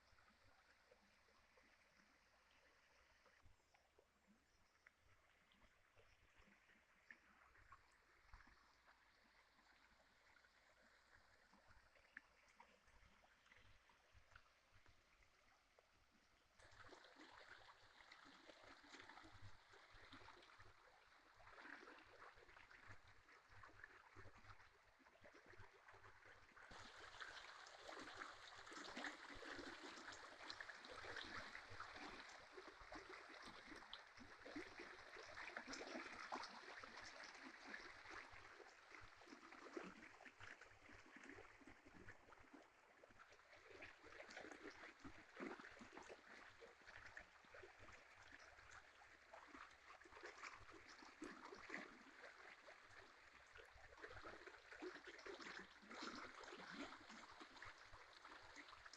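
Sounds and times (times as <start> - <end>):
small stream babbling: 0.0 - 58.9.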